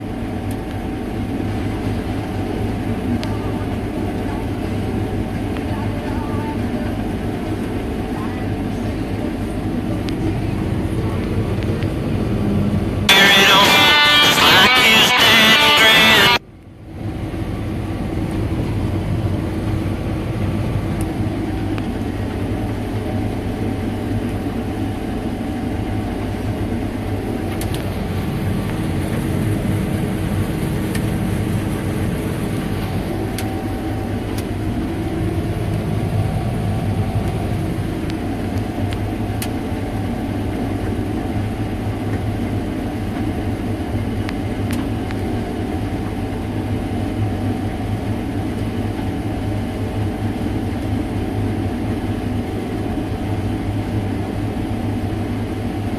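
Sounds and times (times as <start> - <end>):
combine harvester engine drone: 0.0 - 55.9.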